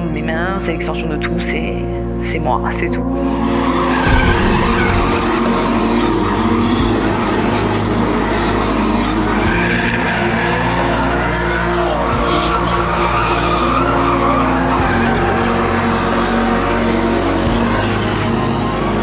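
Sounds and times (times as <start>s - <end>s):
low musical drone: 1.7s - 19.0s
car engines revving: 3.0s - 19.0s.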